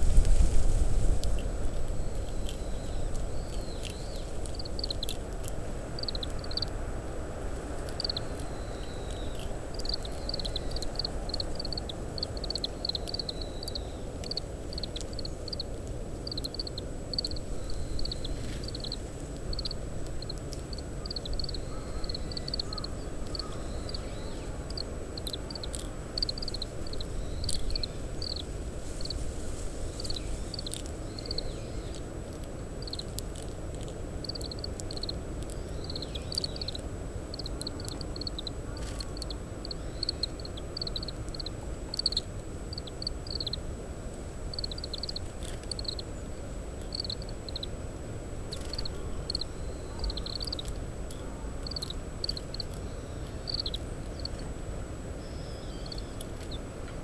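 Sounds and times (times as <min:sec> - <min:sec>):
low wind rumble: 0:00.0 - 0:57.0
finches chirping: 0:01.9 - 0:05.2, 0:06.0 - 0:06.8, 0:07.8 - 0:29.2, 0:30.0 - 0:32.0, 0:34.2 - 0:43.6, 0:44.5 - 0:46.2, 0:46.8 - 0:47.8, 0:48.5 - 0:54.4, 0:55.2 - 0:56.6.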